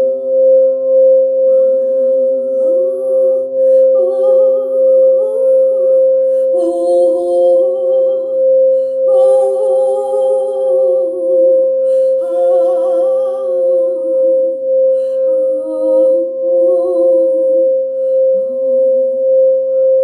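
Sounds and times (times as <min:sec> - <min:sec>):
singing bowl ringing: 0:00.0 - 0:19.9
person humming: 0:01.4 - 0:19.2.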